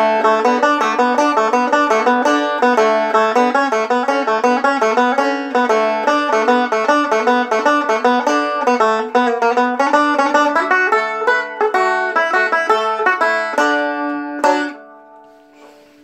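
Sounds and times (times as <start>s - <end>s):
banjo picking: 0.0s - 16.0s.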